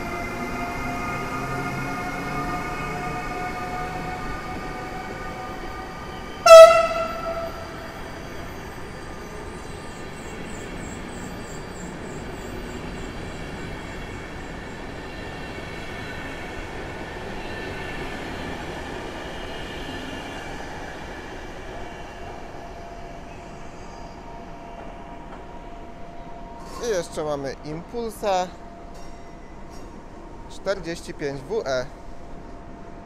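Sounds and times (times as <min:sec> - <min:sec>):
train rolling on rails: 0:00.0 - 0:33.0.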